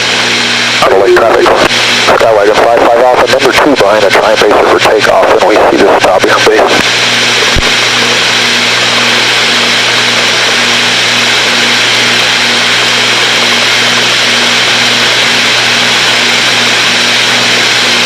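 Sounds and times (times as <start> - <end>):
propeller plane engines droning: 0.0 - 18.0.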